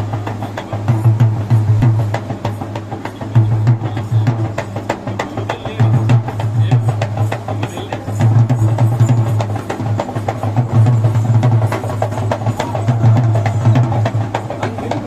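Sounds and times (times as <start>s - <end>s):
fast drumming: 0.0s - 15.0s
steady low hum: 0.0s - 15.0s.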